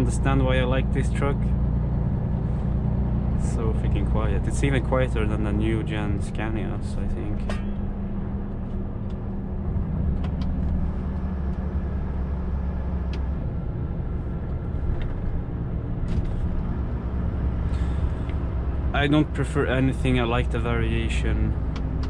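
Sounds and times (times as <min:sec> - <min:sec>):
truck cab engine hum: 0:00.0 - 0:22.0.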